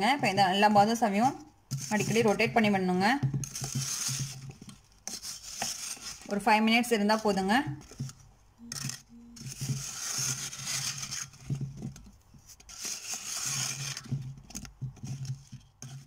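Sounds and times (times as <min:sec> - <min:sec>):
steel spoon scraping a pan: 0:01.2 - 0:11.6, 0:12.4 - 0:16.0.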